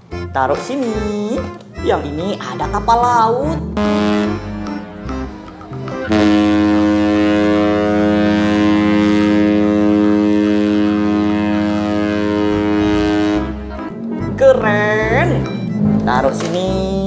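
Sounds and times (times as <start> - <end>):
ship's horn blast: 1.9 - 16.4.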